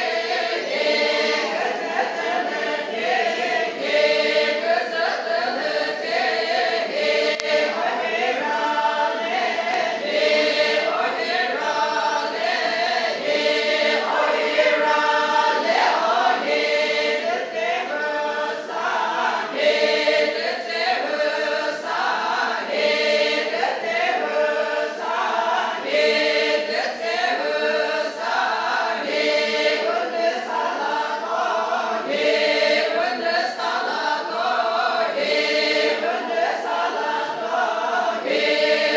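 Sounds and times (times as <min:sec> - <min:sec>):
group singing chant-like song: 0:00.0 - 0:38.9.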